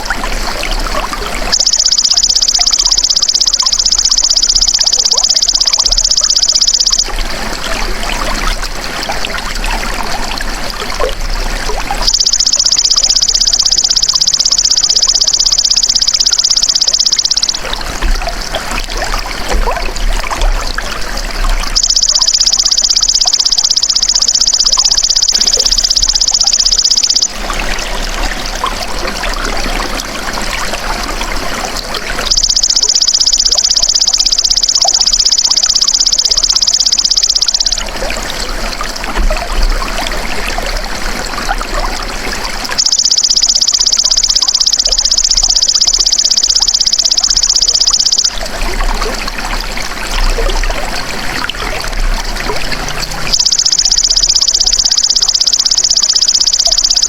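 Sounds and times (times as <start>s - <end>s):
trickling water: 0.0s - 57.0s.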